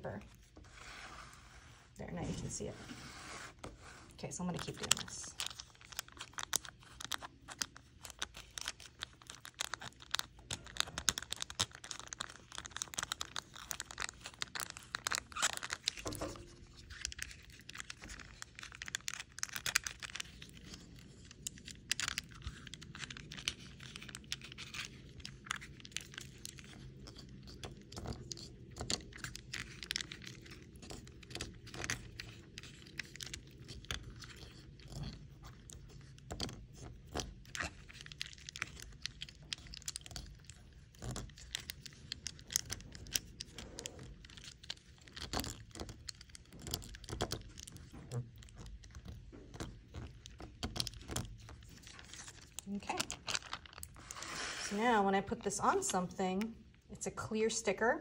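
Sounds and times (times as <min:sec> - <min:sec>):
packaging tape crinkling: 0:04.3 - 0:54.8.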